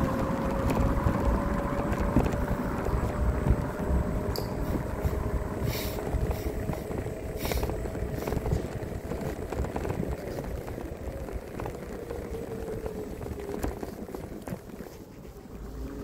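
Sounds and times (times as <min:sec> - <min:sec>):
wheels rumbling over paving: 0:00.0 - 0:16.0
wind rumbling on microphone: 0:00.0 - 0:16.0.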